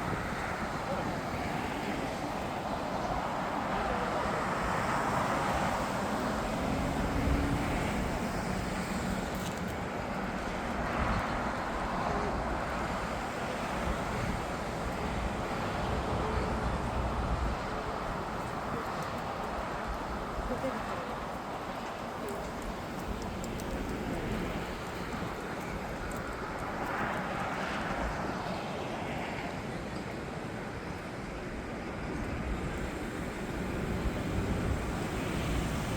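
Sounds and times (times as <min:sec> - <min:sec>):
wind on microphone: 0:00.0 - 0:30.2, 0:31.4 - 0:35.9
jet aircraft engines: 0:00.0 - 0:35.9
road traffic: 0:00.0 - 0:35.9.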